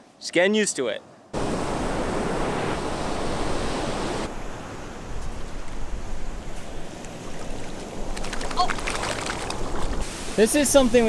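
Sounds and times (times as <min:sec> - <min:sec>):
rushing outdoor noise: 0:01.3 - 0:11.0.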